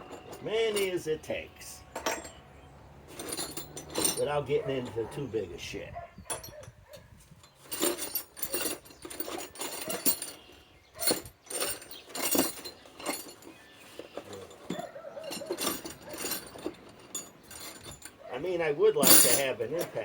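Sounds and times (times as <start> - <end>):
metal hardware clinking: 0.0 - 20.0.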